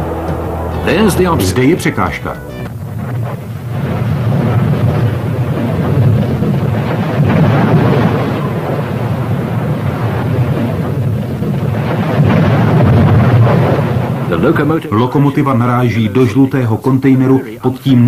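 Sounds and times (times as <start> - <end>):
train crashing low rumble: 0.0 - 16.1.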